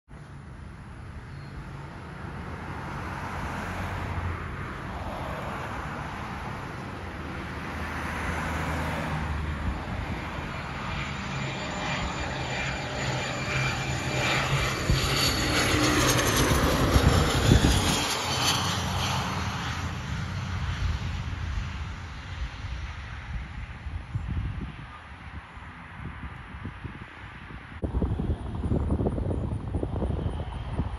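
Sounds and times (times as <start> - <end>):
jet engine whine passing: 1.6 - 30.9.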